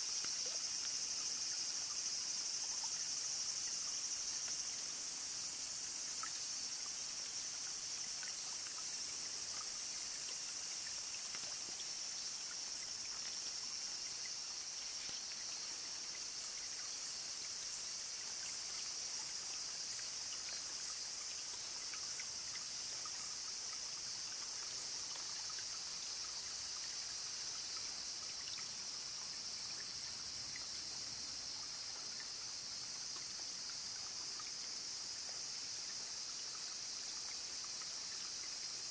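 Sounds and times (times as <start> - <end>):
faint trickle of stream: 0.0 - 38.9
high-pitched insect chorus: 0.0 - 38.9.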